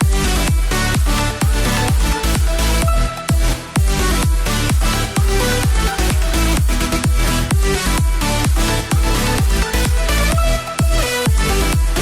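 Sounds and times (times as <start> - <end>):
deep kick drum: 0.0 - 12.0
electronic dance music: 0.0 - 12.0.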